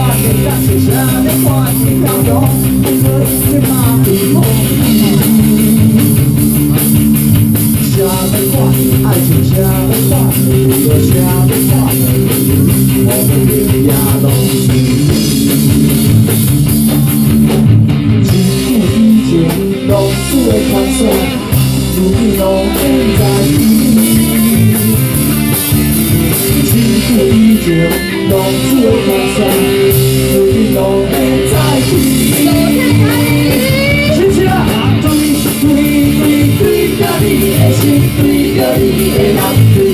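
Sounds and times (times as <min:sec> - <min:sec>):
bass: 0:00.0 - 0:39.9
drum kit: 0:00.0 - 0:39.9
guitar lines: 0:00.0 - 0:39.9.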